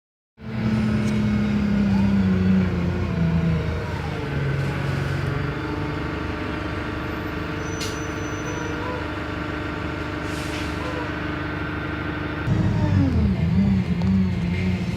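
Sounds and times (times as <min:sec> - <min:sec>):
bus diesel engine droning: 0:00.4 - 0:14.9.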